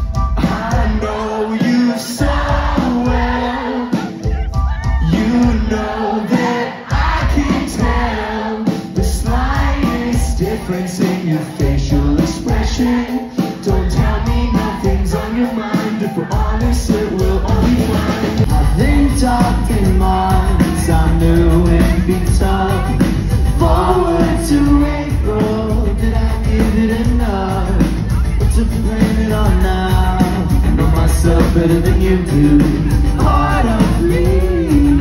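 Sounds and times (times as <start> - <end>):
live rock band: 0.0 - 35.0
man singing lead vocal: 0.0 - 35.0.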